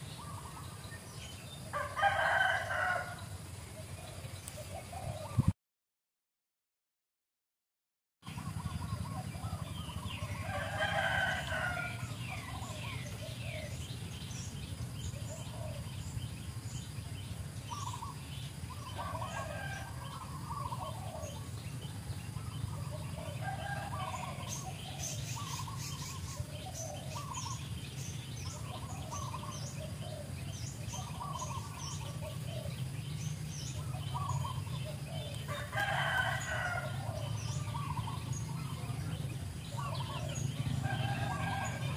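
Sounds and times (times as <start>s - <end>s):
steady low hum: 8.2s - 41.9s.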